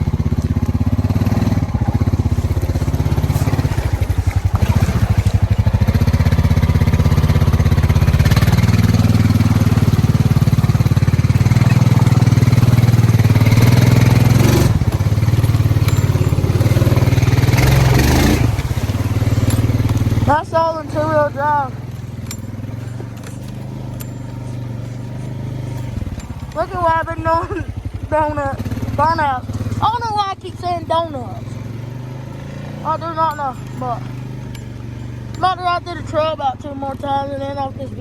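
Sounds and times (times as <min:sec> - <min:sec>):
atv engine revving: 0:00.0 - 0:38.0
wheels churning through mud: 0:00.0 - 0:38.0.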